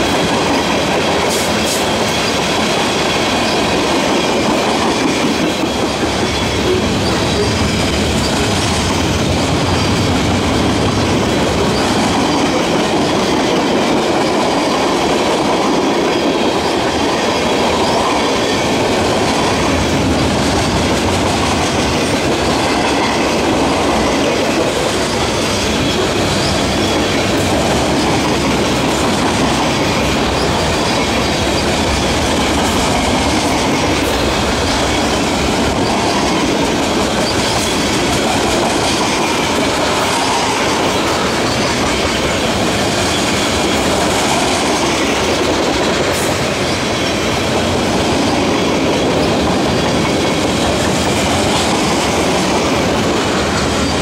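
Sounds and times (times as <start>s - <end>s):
steel wheels rumbling on rail: 0.0s - 54.0s
wheels clacking over rail joints: 0.0s - 54.0s.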